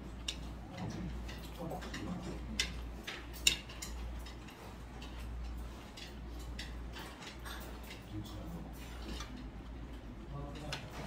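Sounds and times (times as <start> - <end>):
metal chopsticks clicking on dishes: 0.1 - 11.0.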